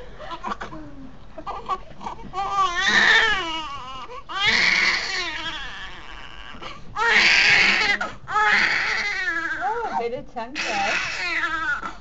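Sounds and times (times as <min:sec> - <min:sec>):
newborn baby crying: 0:01.4 - 0:12.0.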